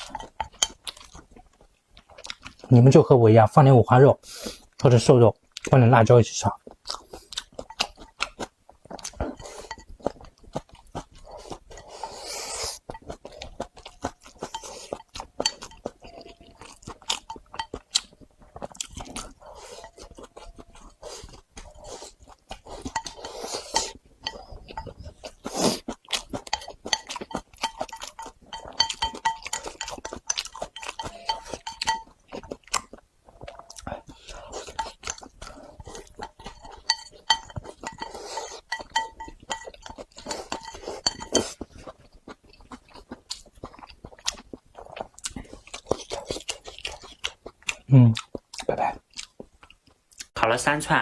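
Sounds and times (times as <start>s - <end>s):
person chewing crunchy food: 0.0s - 3.0s, 6.5s - 50.4s.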